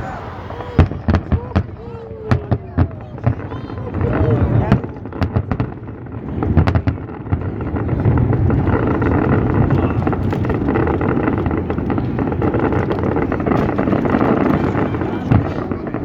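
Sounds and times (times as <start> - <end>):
fireworks crackling: 0.0 - 16.0
fireworks rumble: 0.0 - 16.0
wind on microphone: 0.0 - 16.0.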